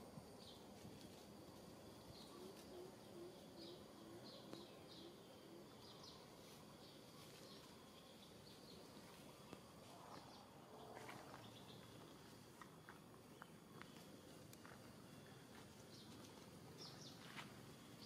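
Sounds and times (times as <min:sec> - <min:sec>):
small birds chirping: 0:01.9 - 0:18.0.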